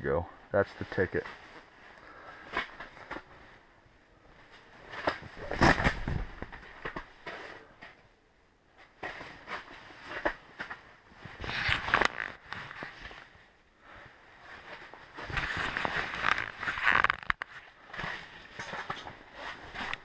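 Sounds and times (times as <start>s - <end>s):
clothing and gear rustling: 0.7s - 8.0s, 8.7s - 20.0s.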